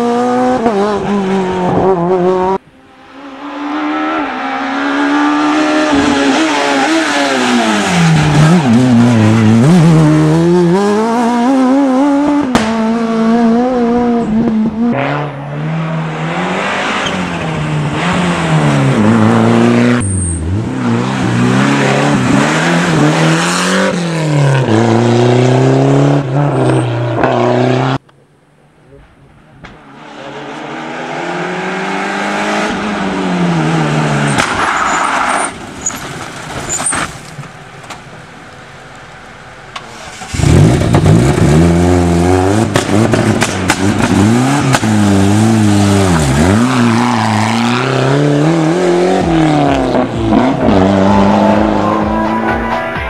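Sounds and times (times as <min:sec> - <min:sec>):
rally car engines at full throttle: 0:00.0 - 0:53.0.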